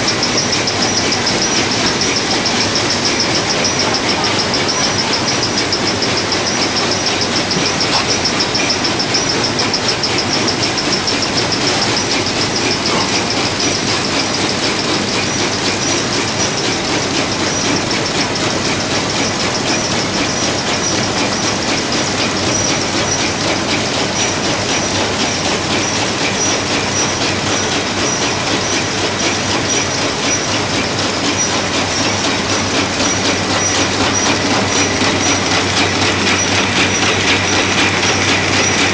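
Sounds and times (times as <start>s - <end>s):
high machine whine: 0.0s - 38.9s
machinery rattling: 0.0s - 38.9s.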